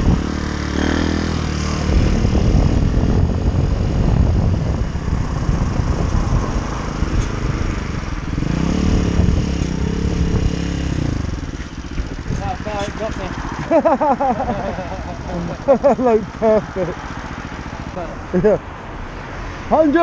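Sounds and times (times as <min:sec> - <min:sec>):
pit bike engine running: 0:00.0 - 0:18.4
wind and road noise: 0:00.0 - 0:20.0.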